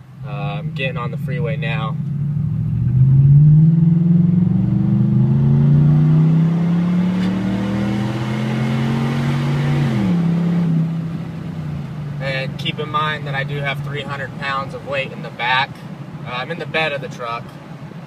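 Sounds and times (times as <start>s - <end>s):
truck engine accelerating: 0.2s - 14.9s.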